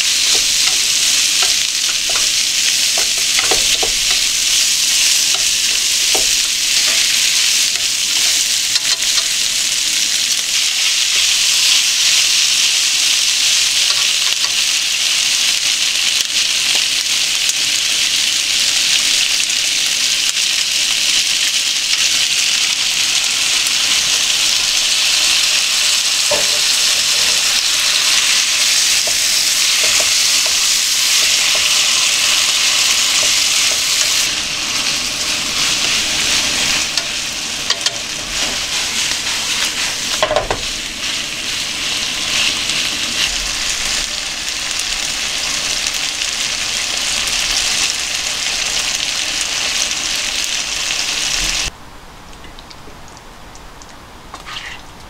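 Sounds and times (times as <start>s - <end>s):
meat sizzling in a frying pan: 0.0s - 51.8s.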